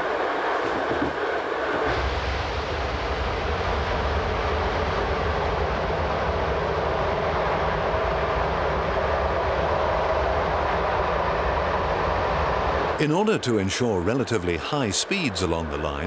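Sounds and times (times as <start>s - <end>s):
train rumbling over viaduct: 0.0s - 16.0s
train rushing noise: 0.0s - 16.0s.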